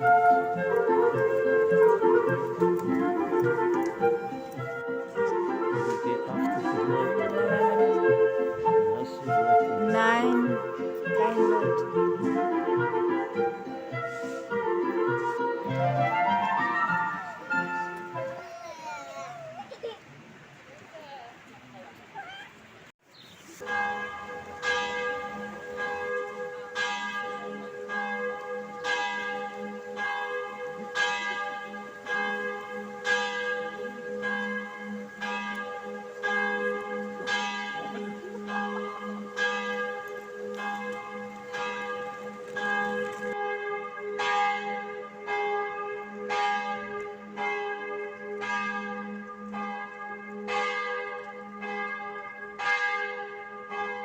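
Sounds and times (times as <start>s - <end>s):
church bells ringing: 0.0s - 18.4s, 23.6s - 54.0s.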